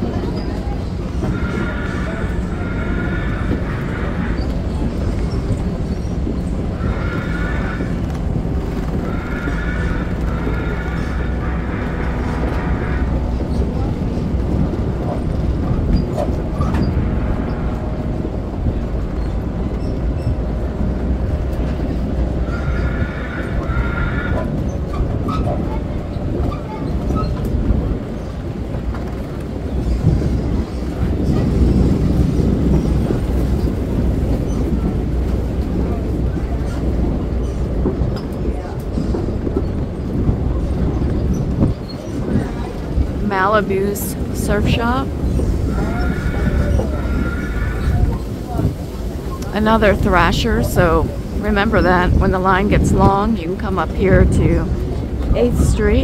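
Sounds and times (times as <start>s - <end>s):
tram rumbling over wooden planks: 0.0s - 56.0s.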